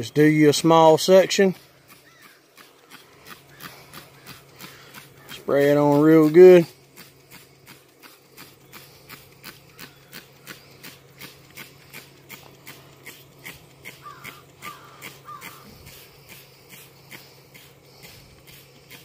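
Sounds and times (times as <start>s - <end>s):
calls in background: 0.0s - 16.1s
spray bottle hissing spurts: 0.0s - 19.0s.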